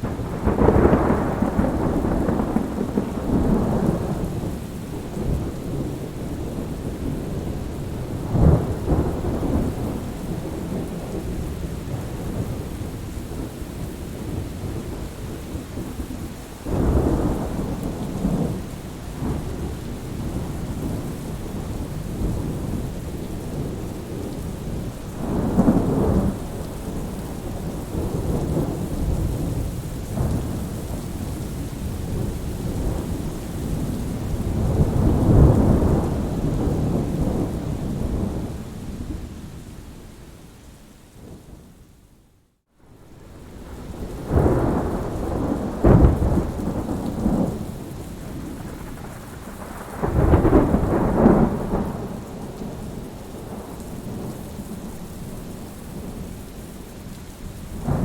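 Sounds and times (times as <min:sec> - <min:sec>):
rolling thunder rumbles: 0:00.0 - 0:39.7, 0:42.9 - 0:56.4, 0:57.5 - 0:58.0
steady rain falling: 0:00.0 - 0:58.0.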